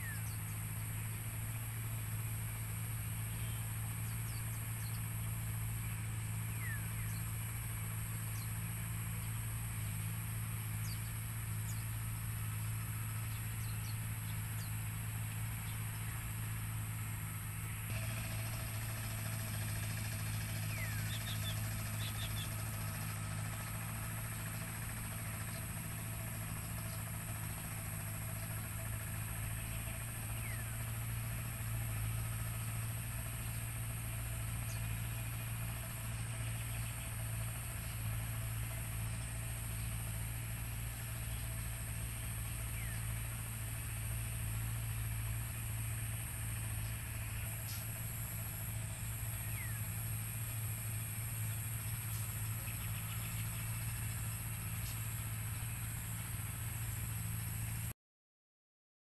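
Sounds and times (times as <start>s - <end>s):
hand tractor engine humming: 0.0s - 57.9s.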